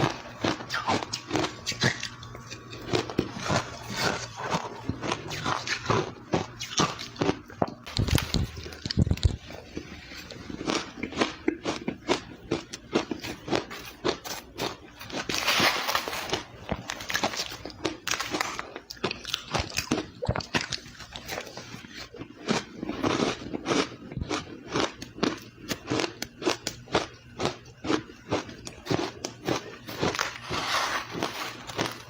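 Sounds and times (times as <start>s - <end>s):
ice being chewed crunching: 0.0s - 32.0s.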